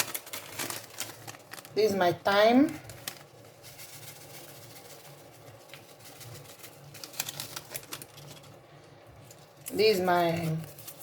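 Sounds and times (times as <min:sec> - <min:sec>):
ingredients rustling and clicking: 0:00.0 - 0:11.0.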